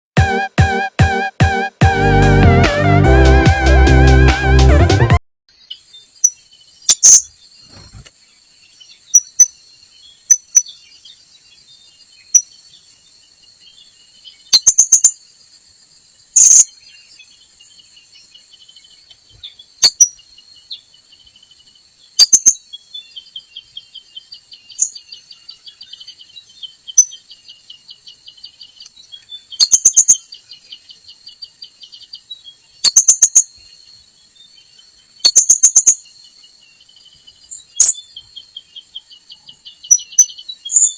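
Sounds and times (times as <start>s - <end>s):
insects droning: 5.5s - 40.9s.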